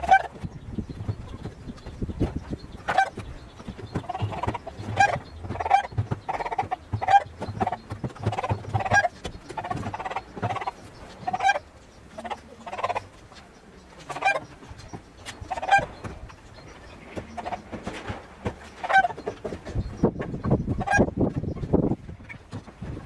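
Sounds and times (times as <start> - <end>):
knocking and scraping: 0.0 - 11.6, 13.2 - 23.0
chickens clucking: 0.0 - 23.0.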